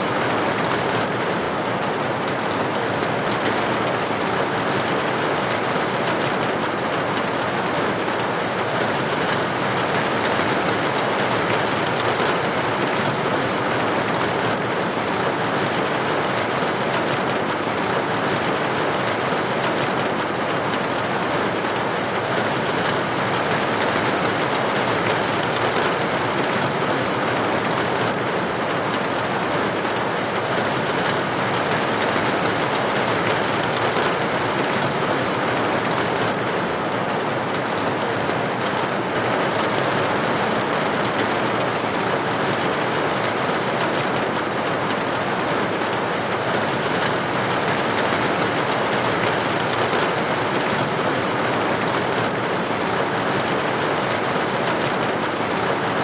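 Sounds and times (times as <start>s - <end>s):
rain on window pane: 0.0s - 56.0s.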